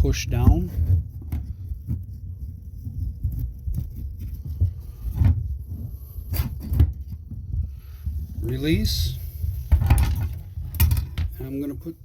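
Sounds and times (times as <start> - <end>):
low thumps of handling: 0.0 - 11.4.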